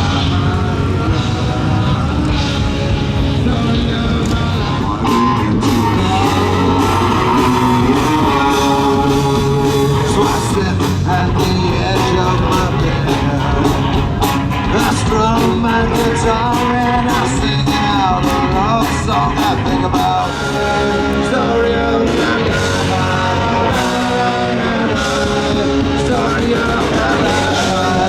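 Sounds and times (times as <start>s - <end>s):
rock music with singer: 0.0s - 28.0s.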